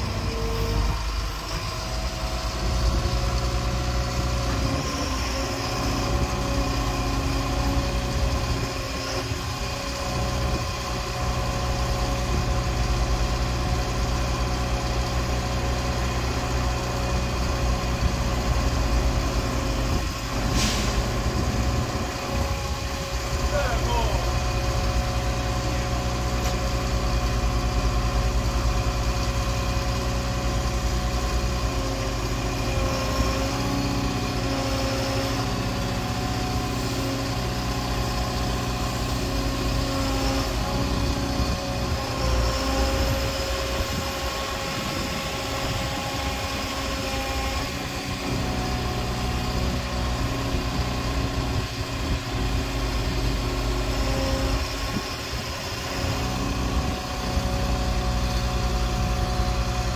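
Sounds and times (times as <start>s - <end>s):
diesel engine running: 0.0s - 59.9s
hydraulic whine: 0.0s - 59.9s.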